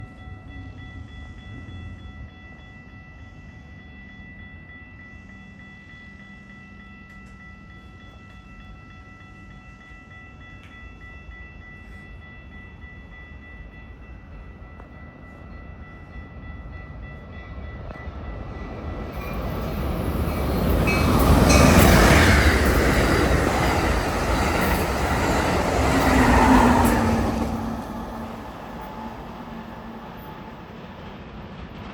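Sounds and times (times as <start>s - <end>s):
passenger train passing: 0.0s - 31.9s.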